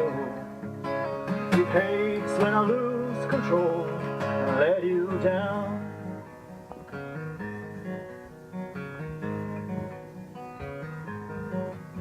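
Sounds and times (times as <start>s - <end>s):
plucked guitar playing chords: 0.0s - 12.0s.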